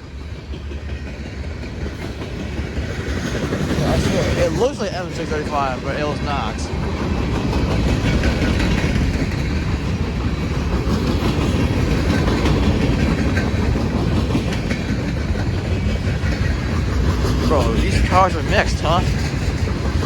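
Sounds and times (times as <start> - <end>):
clickety-clack over rail joints: 0.0 - 20.0
freight train wheels rumbling: 0.0 - 20.0.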